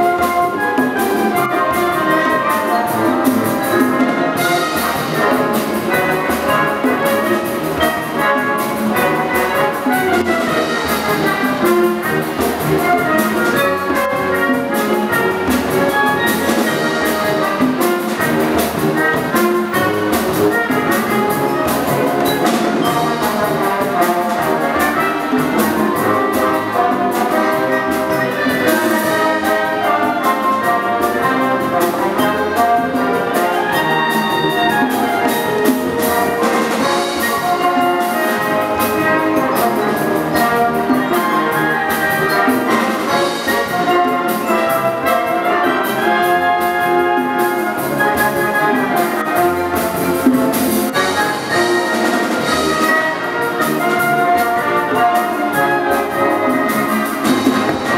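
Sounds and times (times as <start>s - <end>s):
brass melody: 0.0s - 57.9s
percussion beat: 0.0s - 57.9s
woodwinds playing: 0.0s - 57.9s.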